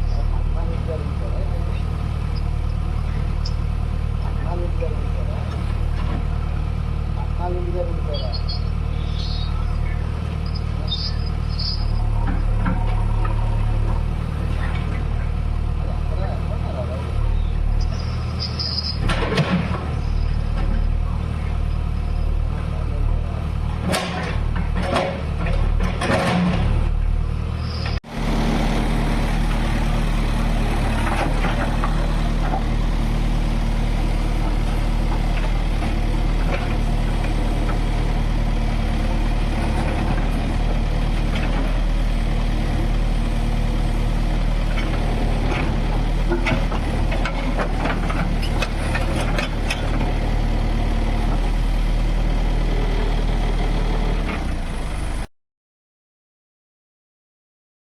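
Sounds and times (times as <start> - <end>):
diesel engine running: 0.0 - 55.3.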